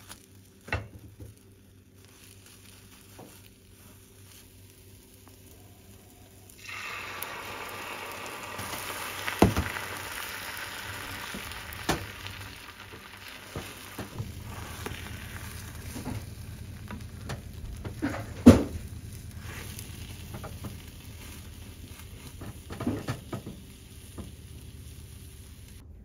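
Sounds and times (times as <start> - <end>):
egg sizzling in a pan: 0.0 - 25.8.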